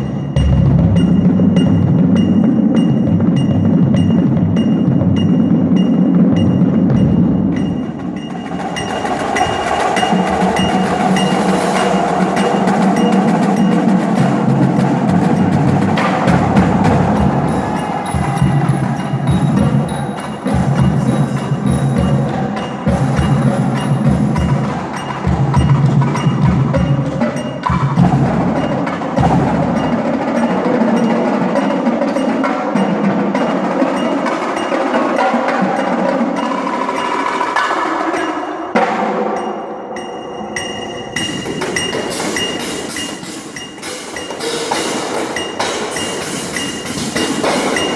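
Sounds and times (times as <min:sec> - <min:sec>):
drums: 0:00.0 - 0:47.9
mallet percussion: 0:00.0 - 0:47.9.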